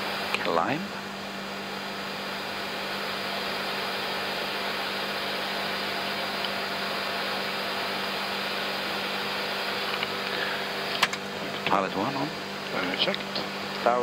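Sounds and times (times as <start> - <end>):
jet engines at climb thrust: 0.0 - 14.0
steady low hum: 0.0 - 14.0
air rushing over cockpit: 2.4 - 14.0.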